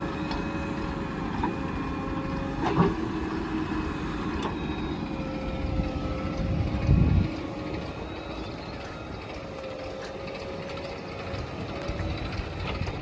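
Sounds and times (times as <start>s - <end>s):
diesel engine running with whine: 0.0s - 13.0s.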